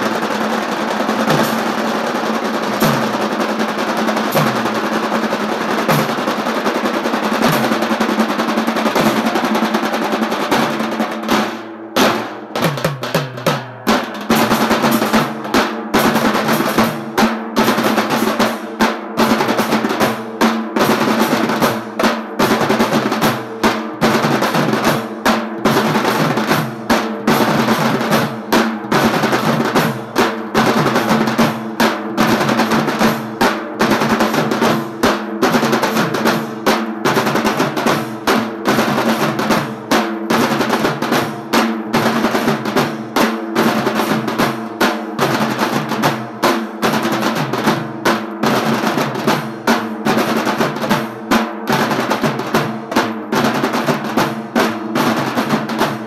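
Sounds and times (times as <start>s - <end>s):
barrel drums beating: 0.0s - 56.0s
fast rolling drum strokes: 0.0s - 56.0s.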